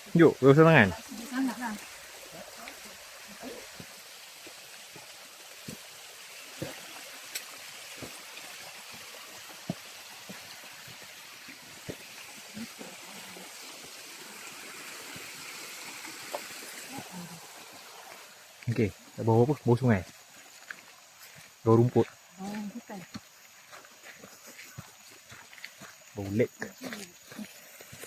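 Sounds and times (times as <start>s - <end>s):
stream running: 0.0s - 28.0s.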